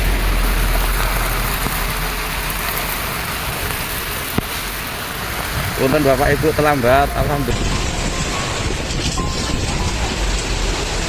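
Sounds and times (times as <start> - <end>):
heavy rain in wind: 0.0 - 11.0.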